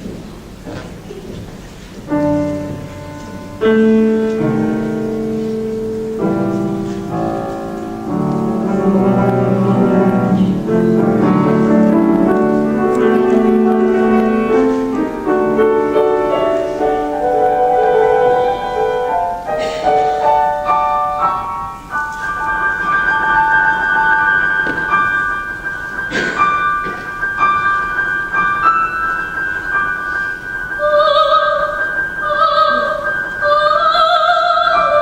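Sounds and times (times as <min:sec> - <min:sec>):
piano playing slow chords: 0:02.1 - 0:35.0.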